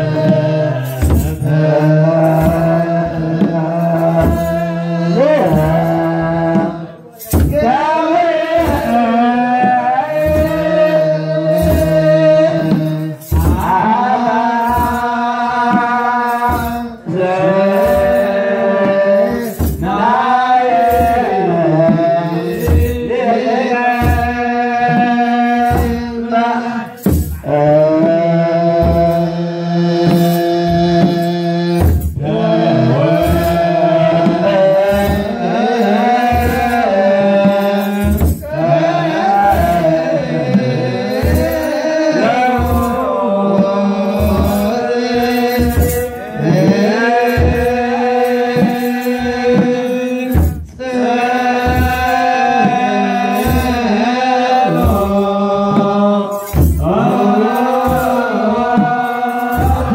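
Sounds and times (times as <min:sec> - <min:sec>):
drum beat: 0:00.0 - 0:59.9
men chanting a hymn: 0:00.0 - 0:59.9
metal jingle of sistra: 0:00.0 - 0:59.9.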